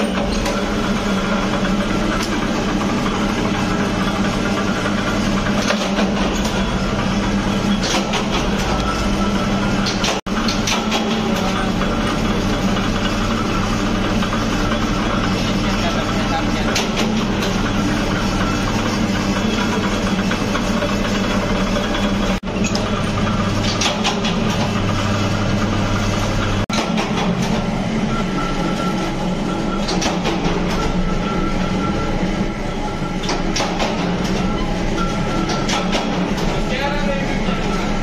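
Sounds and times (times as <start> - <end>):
machinery clattering and clicks: 0.0 - 38.0.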